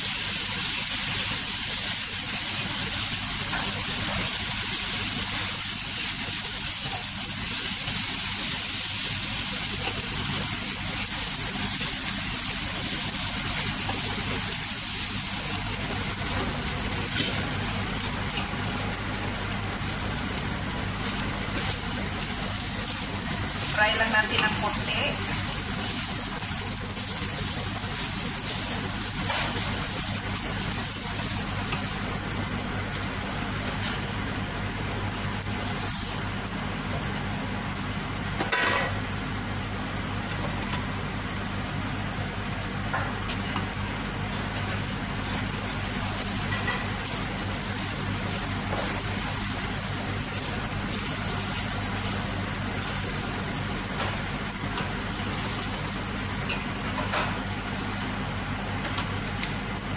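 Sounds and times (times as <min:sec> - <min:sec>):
faint sizzle: 0:00.0 - 0:59.9.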